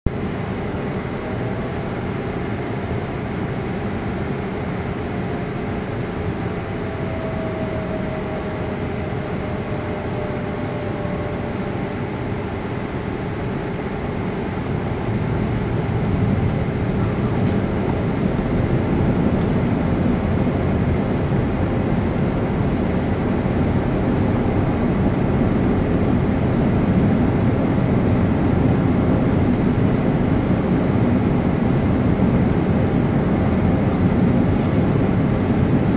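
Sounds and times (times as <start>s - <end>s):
jet engines and airflow in cabin: 0.1s - 35.9s.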